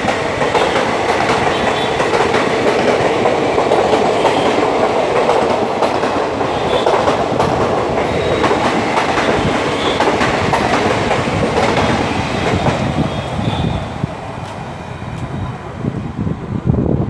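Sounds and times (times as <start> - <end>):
train wheels clattering over rail joints: 0.0 - 13.8
train rolling noise: 0.0 - 17.0.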